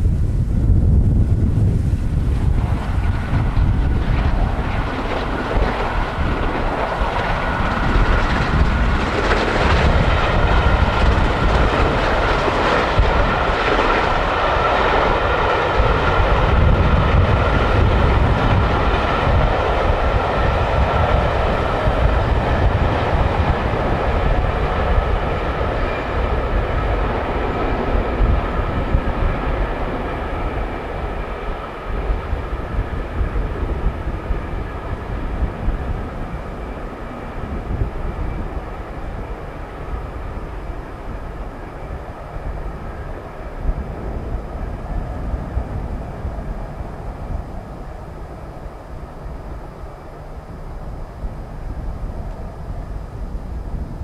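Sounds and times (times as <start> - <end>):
steam train running: 0.0 - 53.9
wind rumble on microphone: 0.0 - 54.0.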